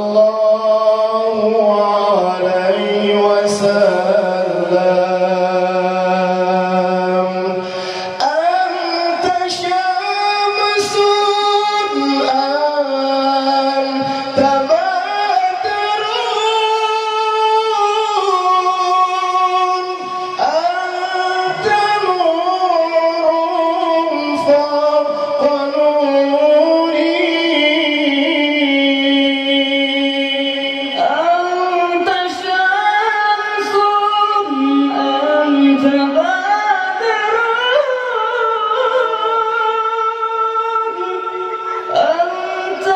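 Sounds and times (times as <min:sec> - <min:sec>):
man singing through microphone: 0:00.0 - 0:42.9.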